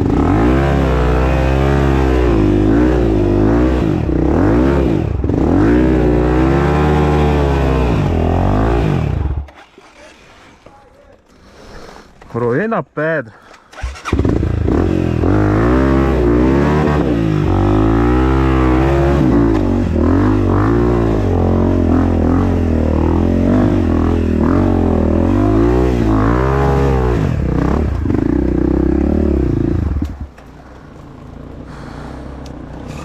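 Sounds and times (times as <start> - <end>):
dirt bike engine revving: 0.0 - 10.3, 13.7 - 33.0.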